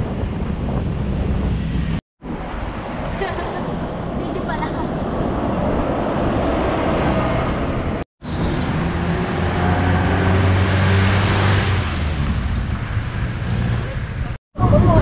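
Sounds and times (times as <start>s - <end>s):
bus running alongside: 0.0s - 15.0s
road traffic noise: 0.0s - 15.0s.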